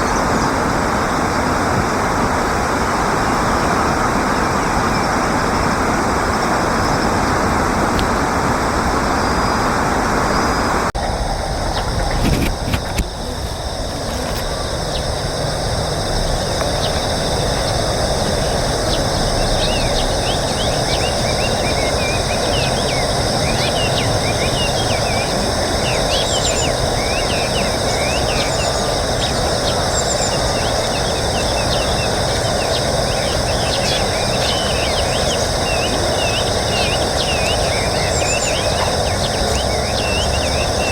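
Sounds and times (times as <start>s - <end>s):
rushing outdoor background noise: 0.0s - 40.9s.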